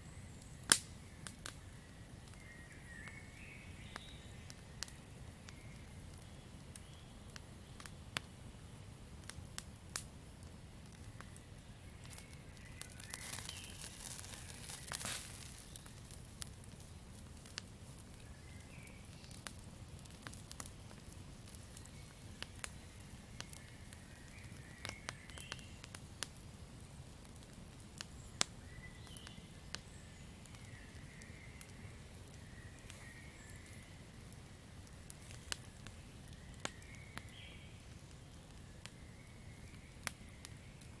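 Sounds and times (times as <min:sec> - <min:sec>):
campfire crackling and popping: 0:00.2 - 0:41.0
fire hissing flare-up: 0:04.3 - 0:41.0.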